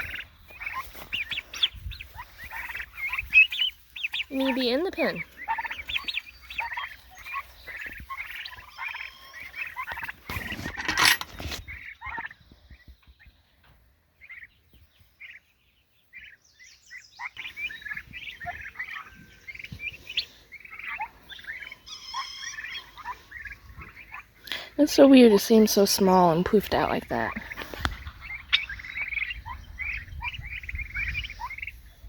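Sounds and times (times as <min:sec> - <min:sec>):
turkeys calling: 0:00.0 - 0:32.0.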